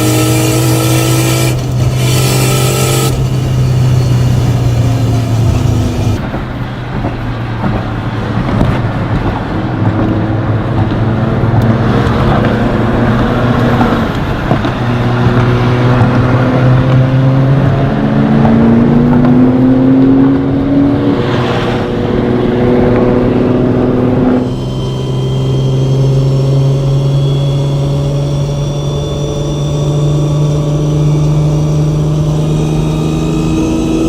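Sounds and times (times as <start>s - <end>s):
car engine running: 0.0s - 21.2s, 21.8s - 34.0s.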